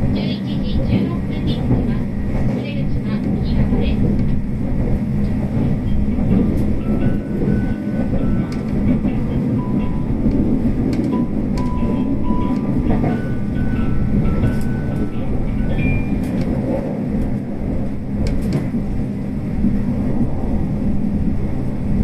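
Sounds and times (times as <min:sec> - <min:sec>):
train rumble from inside: 0:00.0 - 0:22.0.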